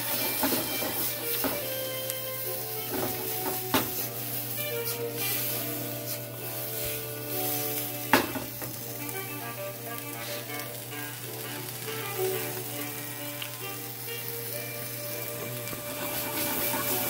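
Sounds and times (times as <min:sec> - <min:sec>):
background music: 0:00.0 - 0:17.0
meat and peppers sizzling in a pan: 0:00.0 - 0:17.0.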